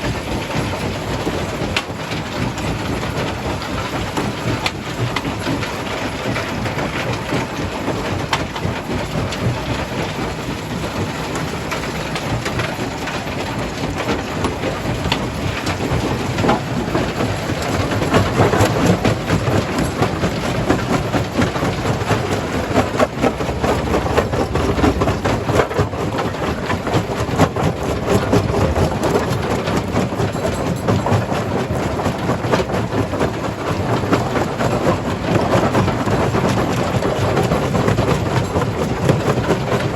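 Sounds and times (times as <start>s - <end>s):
jaw crusher rumbling: 0.0s - 39.9s.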